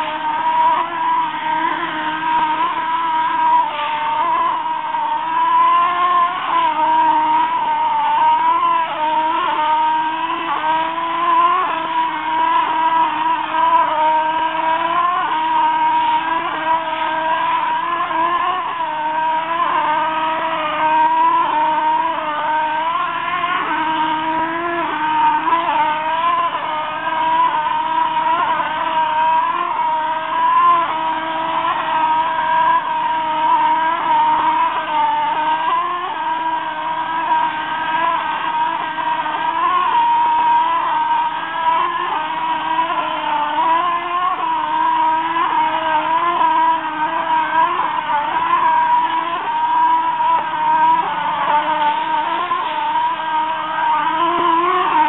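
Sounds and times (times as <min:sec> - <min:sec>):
stucco spraying rig motor whine: 0:00.0 - 0:55.0.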